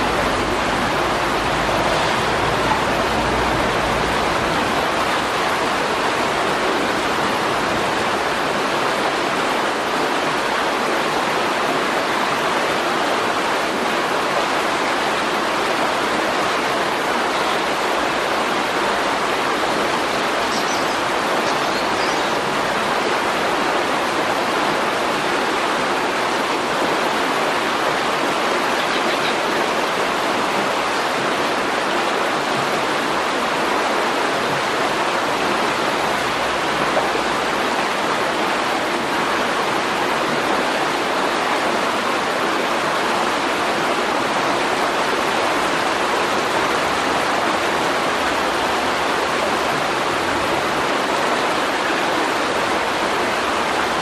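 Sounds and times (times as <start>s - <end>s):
river water rushing over stones: 0.0s - 54.0s.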